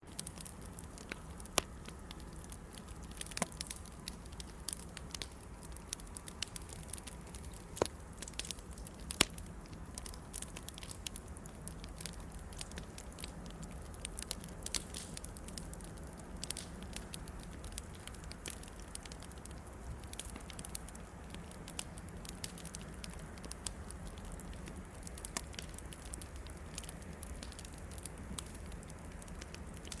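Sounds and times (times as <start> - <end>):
bonfire crackling and popping: 0.0 - 30.0.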